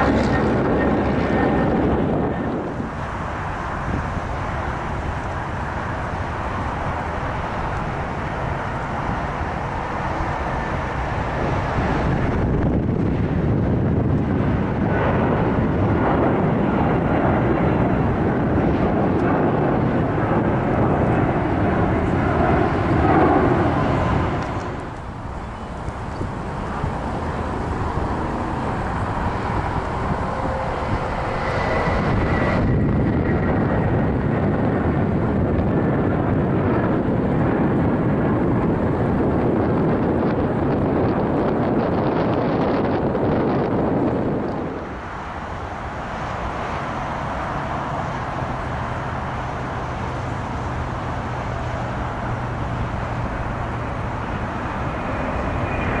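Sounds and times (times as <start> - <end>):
jet engines roaring overhead: 0.0 - 56.0.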